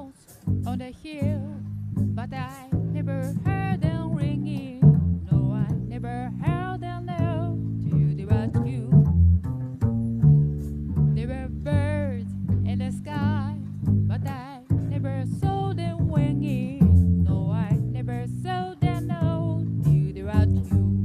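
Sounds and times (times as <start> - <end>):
woman singing a slow ballad: 0.0 - 9.1, 11.1 - 21.0
plucked double bass: 0.0 - 21.0.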